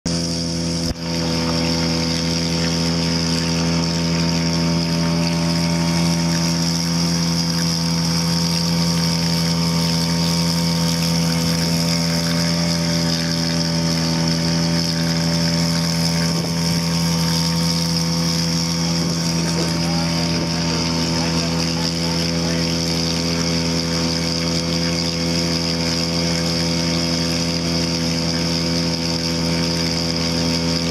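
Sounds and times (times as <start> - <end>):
outboard motor buzzing drone: 0.0 - 30.9.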